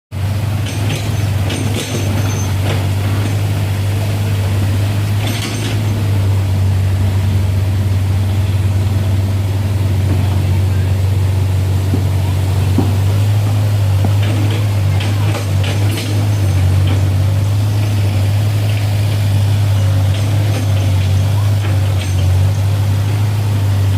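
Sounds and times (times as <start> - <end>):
tractor diesel engine droning: 0.1 - 23.9.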